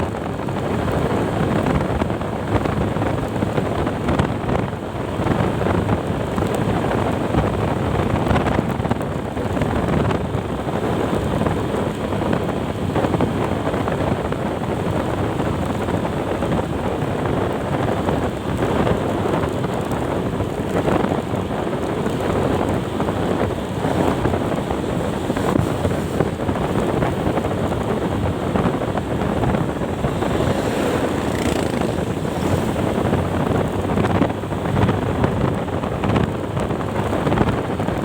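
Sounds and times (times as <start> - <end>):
road noise: 0.0 - 38.0
wind rumble on microphone: 0.0 - 38.0.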